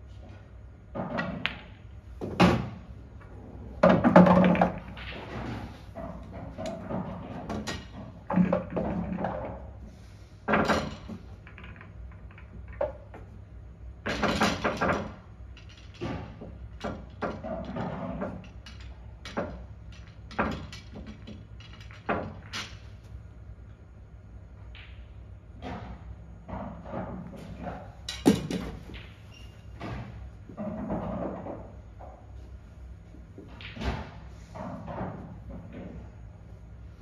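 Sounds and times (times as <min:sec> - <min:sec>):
pool balls clacking together: 0:00.3 - 0:23.2, 0:24.8 - 0:37.0.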